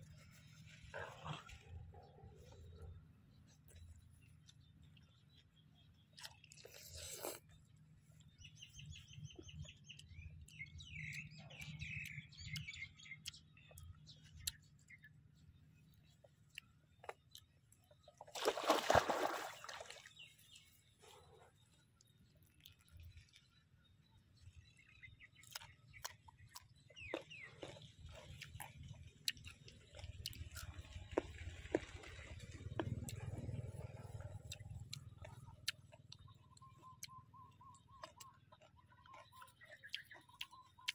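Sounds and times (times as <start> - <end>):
crunchy chewing: 0.0 - 18.4, 20.2 - 40.9
birds chirping: 0.0 - 40.9.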